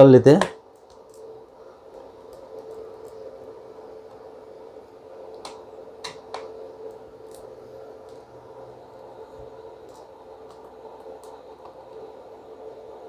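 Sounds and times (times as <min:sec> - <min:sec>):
steady faint hum: 0:00.0 - 0:13.0.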